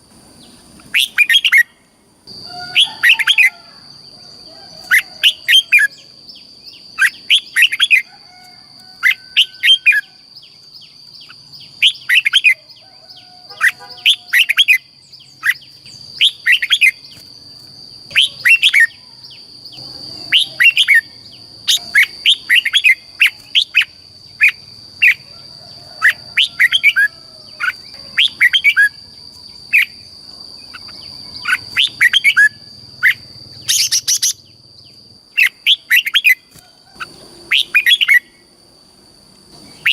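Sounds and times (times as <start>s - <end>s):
bird chirping song: 0.0s - 38.6s, 39.5s - 39.9s.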